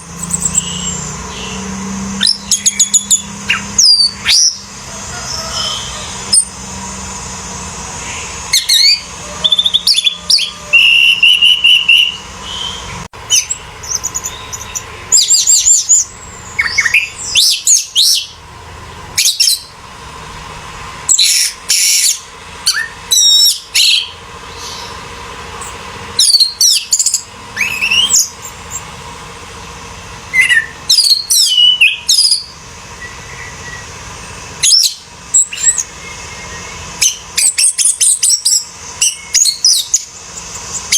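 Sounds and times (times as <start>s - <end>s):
thrush singing: 0.0s - 40.9s.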